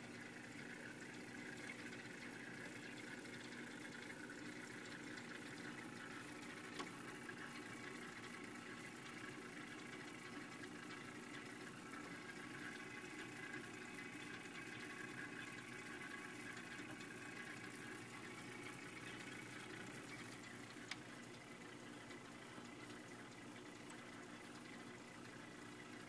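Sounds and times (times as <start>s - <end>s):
aeration bubbling in water: 0.0s - 26.0s.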